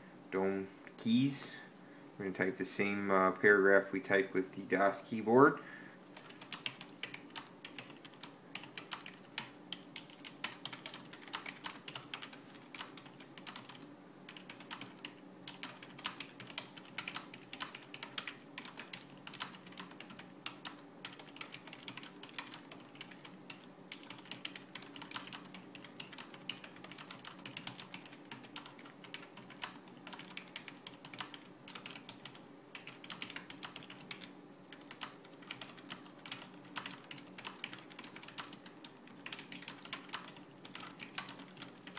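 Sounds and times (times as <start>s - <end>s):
typing on a keyboard: 6.2s - 41.9s.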